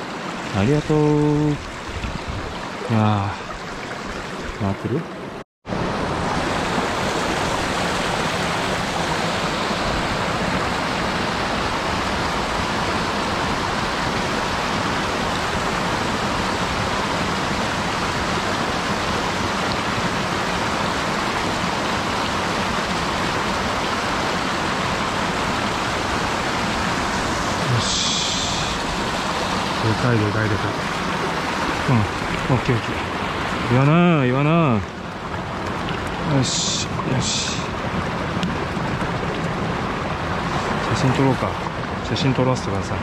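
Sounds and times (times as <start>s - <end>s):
mountain stream rushing: 0.0s - 43.0s.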